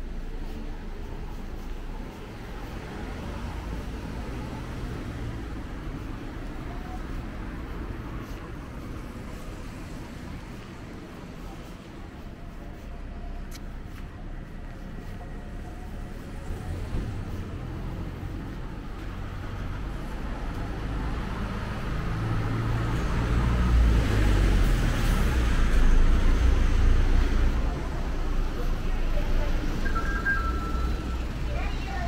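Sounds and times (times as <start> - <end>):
bus driving past: 0.0 - 32.0
faint background traffic: 0.0 - 32.0.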